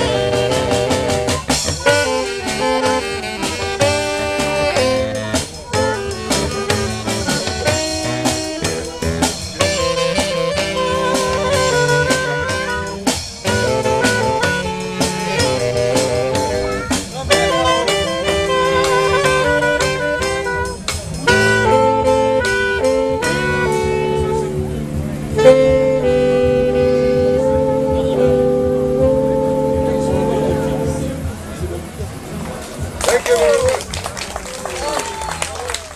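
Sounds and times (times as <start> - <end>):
drums: 0.0 - 35.9
saxophones and brass playing: 0.0 - 35.9.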